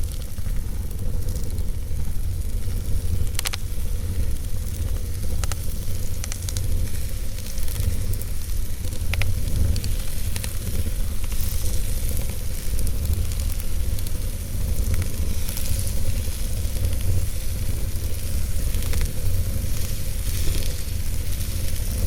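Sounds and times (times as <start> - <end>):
wood fire rumbling and hissing: 0.0 - 22.0.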